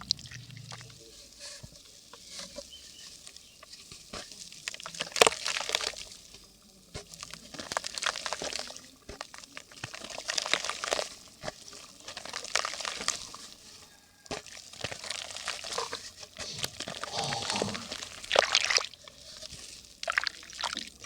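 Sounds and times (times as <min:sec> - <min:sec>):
dry mud crackling soaking water: 0:00.0 - 0:21.0.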